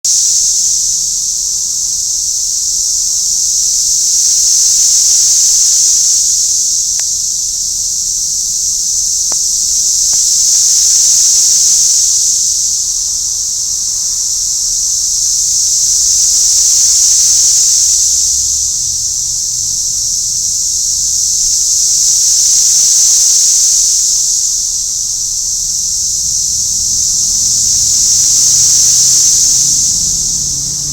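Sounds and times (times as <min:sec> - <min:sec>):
cicadas chorus hissing: 0:00.0 - 0:30.9.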